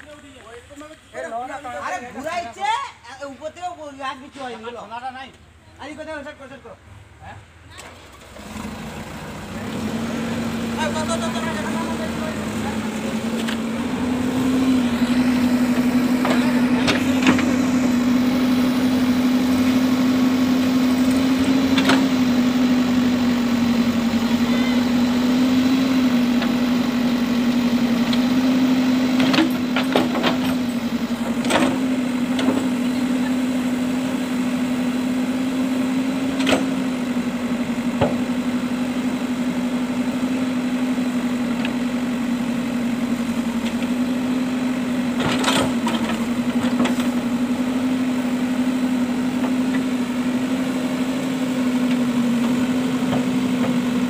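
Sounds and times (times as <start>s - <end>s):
diesel engine running: 7.0s - 54.0s.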